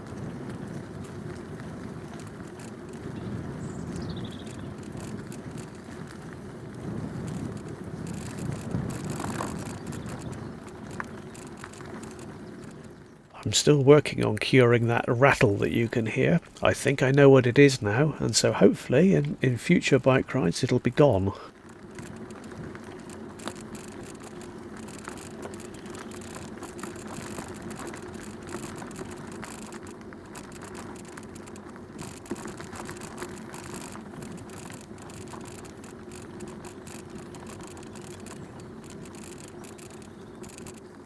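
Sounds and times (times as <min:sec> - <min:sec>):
bicycle tyre and drivetrain noise: 0:00.0 - 0:41.0.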